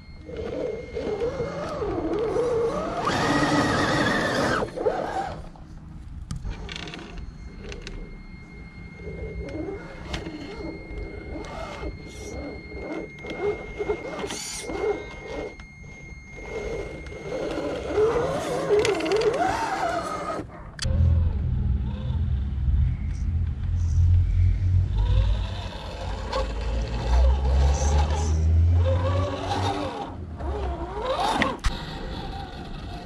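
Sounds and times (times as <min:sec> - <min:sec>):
toy truck electric motors whining: 0:00.0 - 0:05.6, 0:06.3 - 0:20.6, 0:24.5 - 0:33.0
thin high whine: 0:00.0 - 0:33.0.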